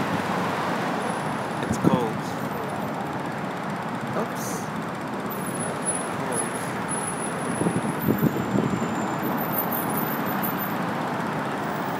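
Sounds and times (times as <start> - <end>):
road traffic noise: 0.0 - 11.9.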